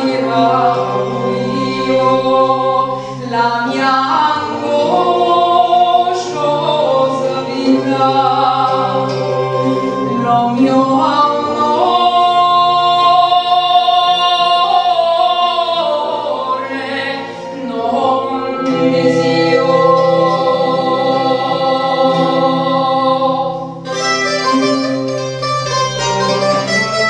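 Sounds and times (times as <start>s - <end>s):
plucked string instruments: 0.0s - 27.0s.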